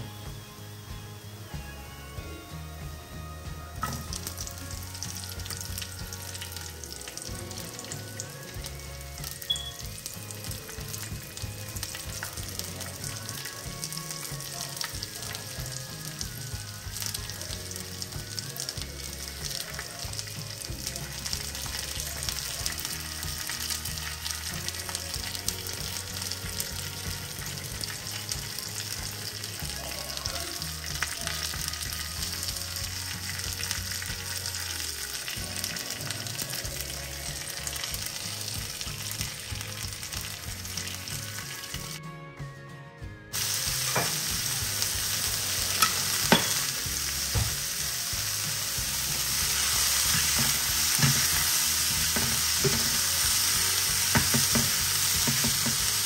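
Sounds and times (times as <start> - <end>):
onion sizzling in oil: 3.7 - 42.0, 43.3 - 56.0.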